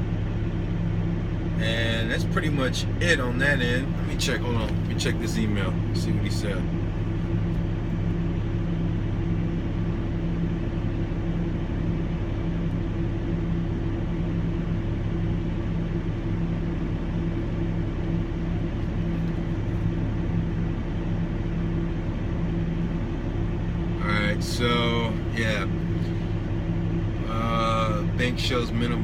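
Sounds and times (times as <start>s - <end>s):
vehicle engine drone: 0.0s - 29.0s.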